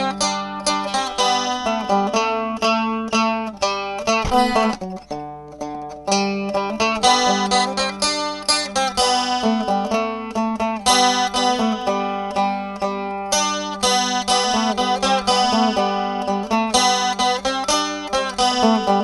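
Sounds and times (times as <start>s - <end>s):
plucked string instrumental music: 0.0s - 19.0s.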